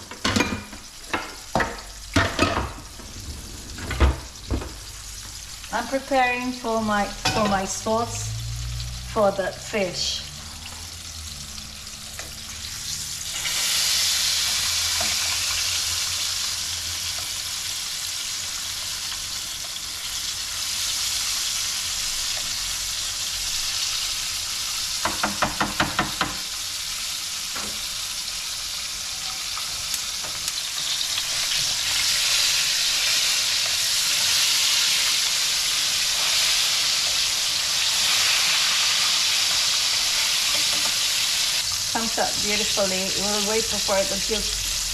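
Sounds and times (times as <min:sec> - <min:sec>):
fish sizzling in hot oil: 0:03.6 - 0:44.9.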